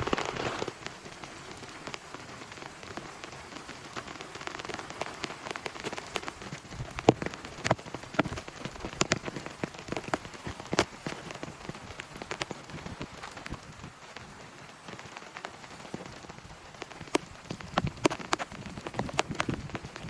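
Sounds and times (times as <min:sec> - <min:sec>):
heavy rain falling: 0:00.0 - 0:20.0
large raindrops tapping: 0:00.0 - 0:20.0.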